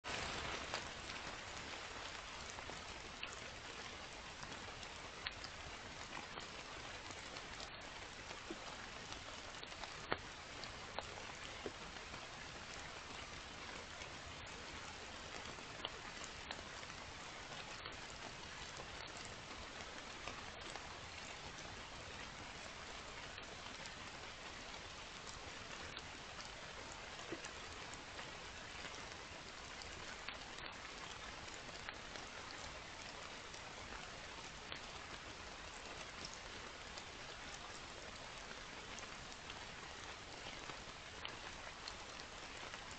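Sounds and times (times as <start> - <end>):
rain drops ticking sharply: 0.0 - 42.9.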